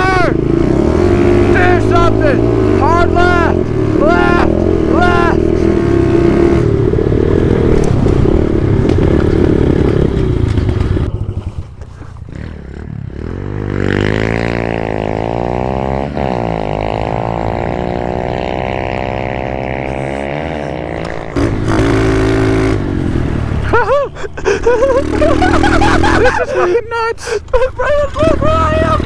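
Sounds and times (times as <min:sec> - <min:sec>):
dirt bike engine revving: 0:00.0 - 0:23.8, 0:24.4 - 0:26.7
engine running steadily: 0:00.0 - 0:29.0.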